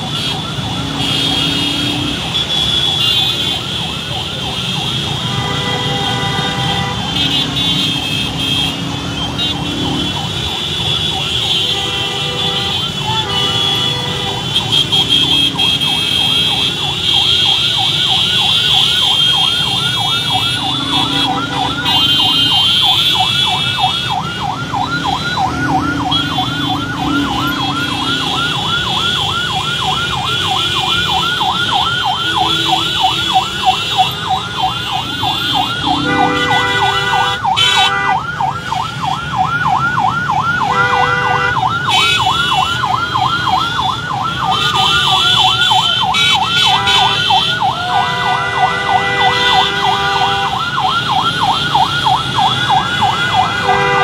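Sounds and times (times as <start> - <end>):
electronic siren yelping: 0.0 - 5.3, 6.9 - 11.4, 12.7 - 54.0
motorcycle and car traffic rumble: 0.0 - 54.0.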